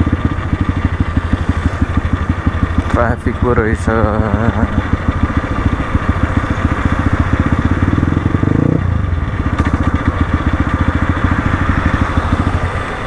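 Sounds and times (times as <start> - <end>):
dirt bike engine at low revs: 0.0 - 13.0.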